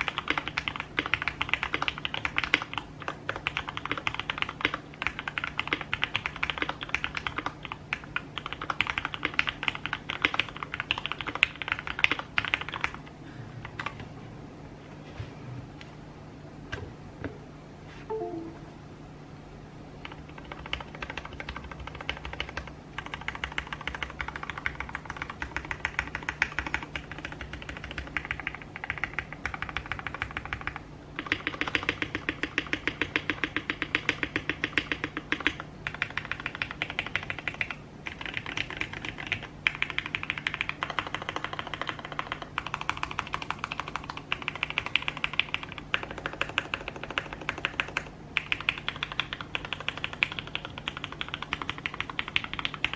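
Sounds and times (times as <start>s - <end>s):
mechanical keyboard typing: 0.0s - 13.0s, 20.0s - 52.9s.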